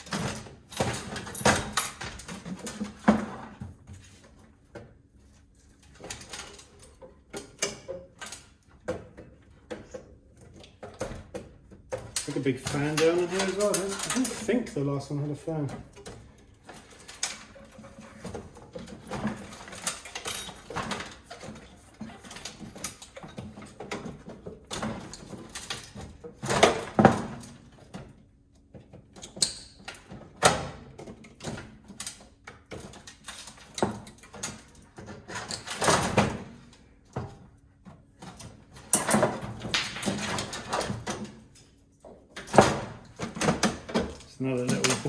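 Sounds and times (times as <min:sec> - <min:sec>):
hand tools and parts clattering: 0:00.0 - 0:45.0.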